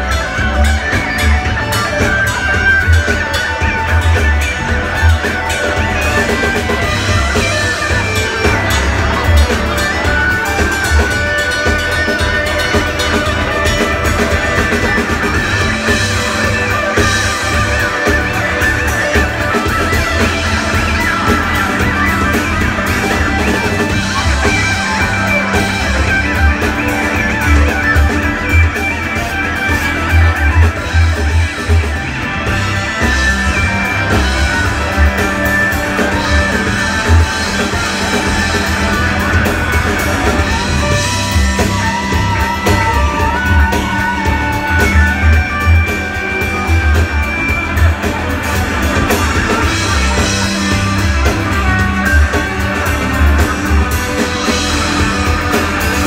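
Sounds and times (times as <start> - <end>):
deep bass line: 0.0 - 56.0
electric guitar: 0.0 - 56.0
live rock band playing: 0.0 - 56.0.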